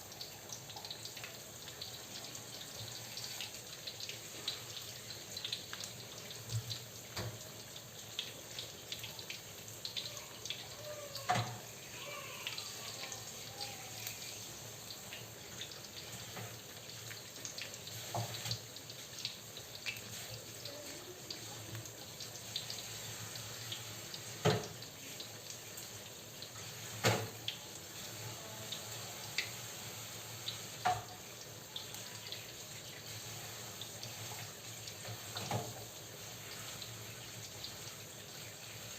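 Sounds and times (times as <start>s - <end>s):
food deep-frying in oil: 0.0s - 38.9s.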